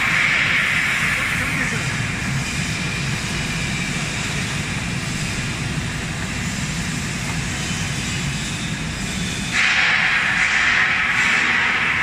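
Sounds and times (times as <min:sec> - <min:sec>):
machine mechanical hum: 0:00.0 - 0:12.0.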